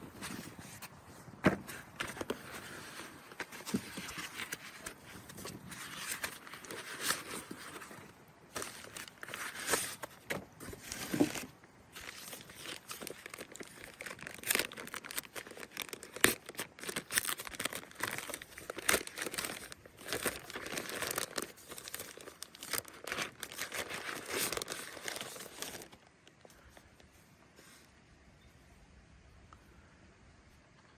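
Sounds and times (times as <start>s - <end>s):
plastic and paper wrapping crinkling: 0.0s - 27.8s.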